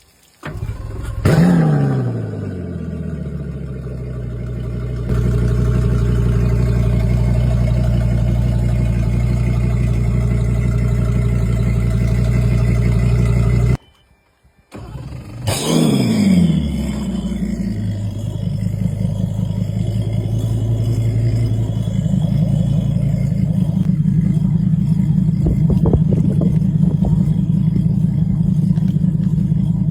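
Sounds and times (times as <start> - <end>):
engine pitch sweeping: 0.4 - 13.8, 14.7 - 29.9
outboard motor running: 0.4 - 13.8, 14.8 - 29.9.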